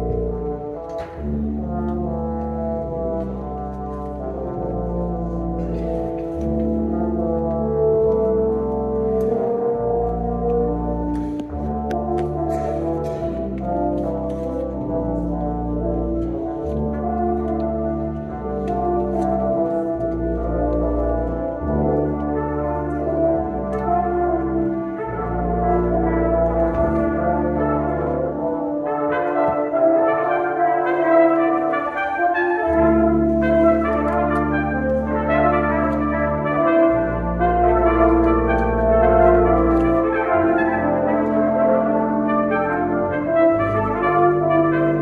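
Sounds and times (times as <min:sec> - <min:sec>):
tuba low notes: 0:00.0 - 0:45.0
upper brass playing: 0:00.0 - 0:45.0.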